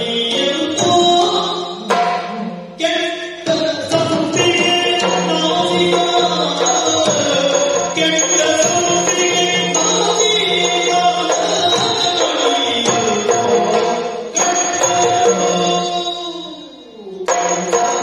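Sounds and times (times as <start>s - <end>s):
hand drums: 0.0s - 18.0s.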